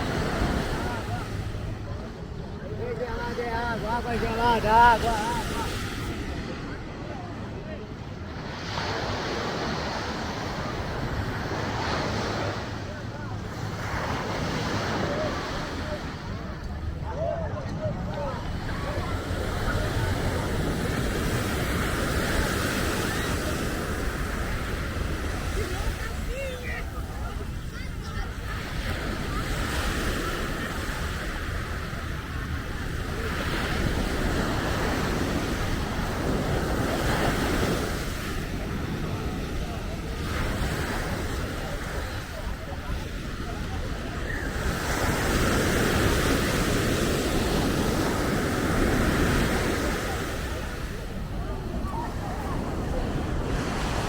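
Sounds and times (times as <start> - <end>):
faint voices: 0.0 - 54.0
surf washing on sandy beach: 0.0 - 54.0.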